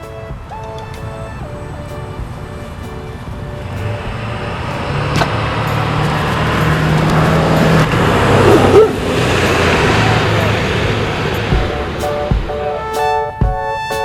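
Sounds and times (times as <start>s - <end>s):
motor vehicle passing: 0.0s - 12.8s.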